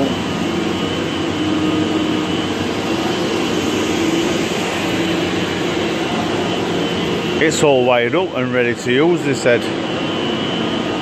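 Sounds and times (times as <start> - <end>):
lathe droning and rattling: 0.0 - 11.0.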